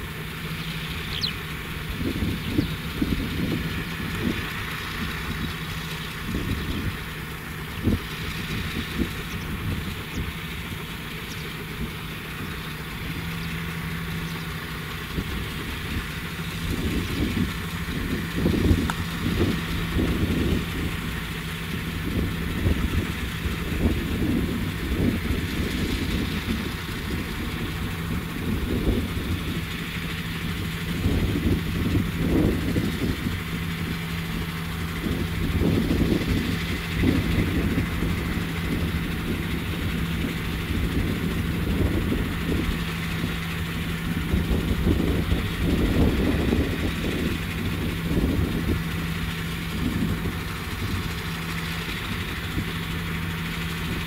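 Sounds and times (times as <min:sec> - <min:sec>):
heavy diesel engine idling: 0:00.0 - 0:54.0.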